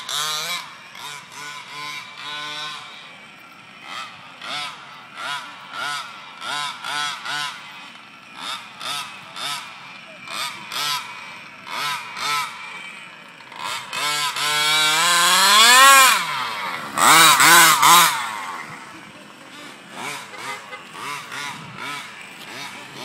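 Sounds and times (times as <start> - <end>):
rc car engine revving: 0.0 - 23.0.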